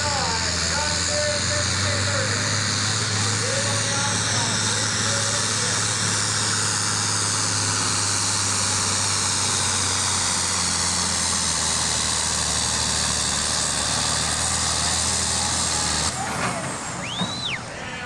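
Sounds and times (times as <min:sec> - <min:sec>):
tractor engine at full throttle: 0:00.0 - 0:18.0.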